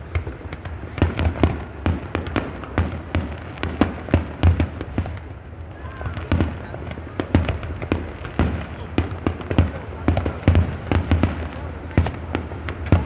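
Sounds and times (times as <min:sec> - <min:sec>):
fireworks shells bursting: 0:00.0 - 0:13.0.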